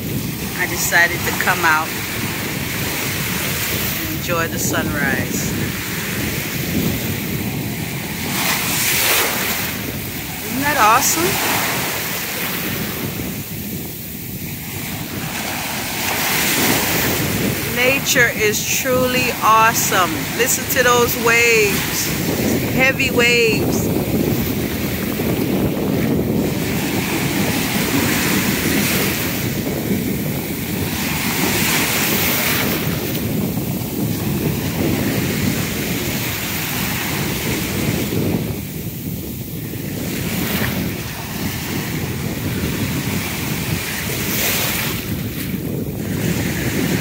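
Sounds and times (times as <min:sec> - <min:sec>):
ocean surf breaking: 0:00.0 - 0:47.0
wind buffeting microphone: 0:00.0 - 0:47.0.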